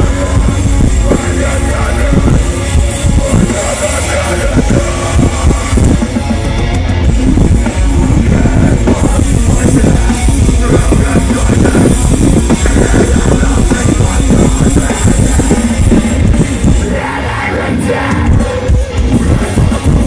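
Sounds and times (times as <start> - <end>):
fast drums: 0.0 - 20.0
heavy distorted guitars: 0.0 - 20.0
live metal band playing: 0.0 - 20.0.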